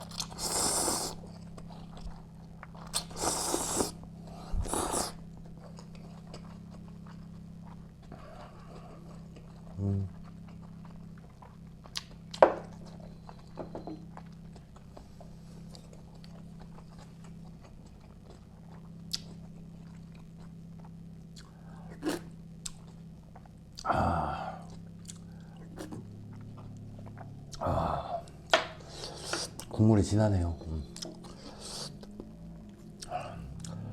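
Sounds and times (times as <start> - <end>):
person chewing: 0.0 - 23.9, 24.6 - 29.8, 30.9 - 33.9
steady low hum: 0.0 - 33.9.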